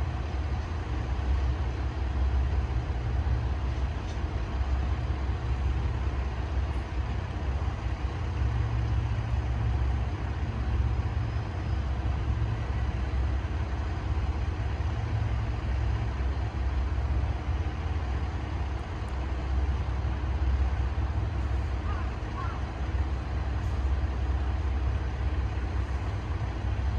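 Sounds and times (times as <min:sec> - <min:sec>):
diesel railcar engine idling: 0:00.0 - 0:26.9.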